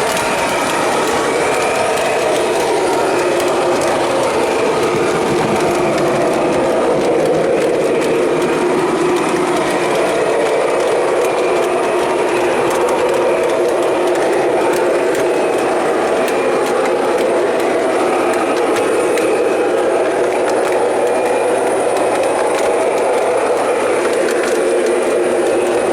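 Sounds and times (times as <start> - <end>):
model train running on track: 0.0 - 25.9.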